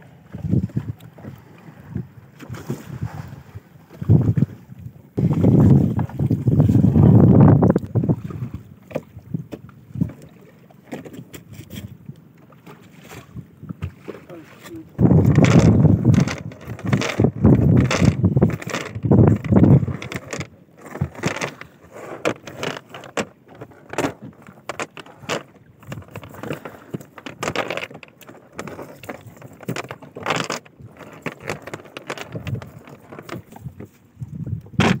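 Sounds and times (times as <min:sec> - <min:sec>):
fishing net rustling and clattering: 0:05.2 - 0:35.0.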